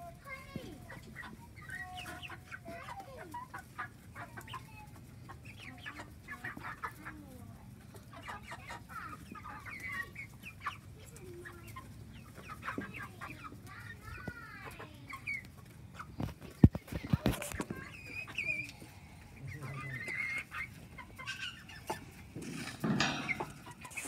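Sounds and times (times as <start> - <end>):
chickens clucking and chirping: 0.0 - 24.0.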